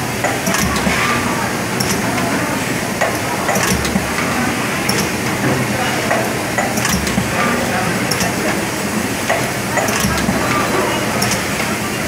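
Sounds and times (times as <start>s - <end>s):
machine mechanical din: 0.0s - 11.9s.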